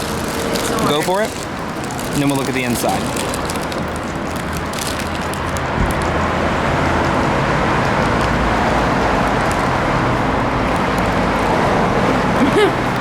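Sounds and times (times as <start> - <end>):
passing vehicles: 0.0 - 13.0.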